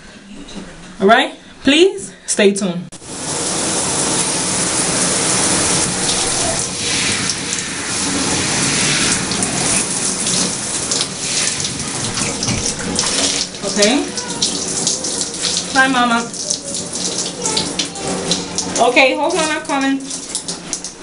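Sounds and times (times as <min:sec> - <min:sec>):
tap water running: 0:03.0 - 0:21.0.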